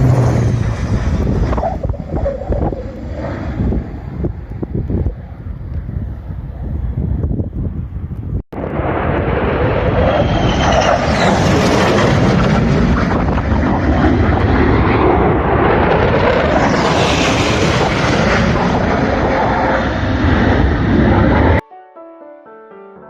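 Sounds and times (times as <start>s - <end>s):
jets flying low past: 0.0s - 21.6s.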